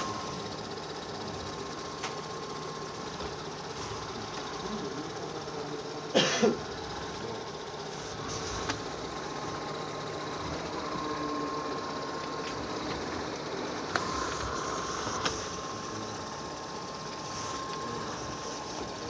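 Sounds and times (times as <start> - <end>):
robot vacuum humming: 0.0 - 19.0.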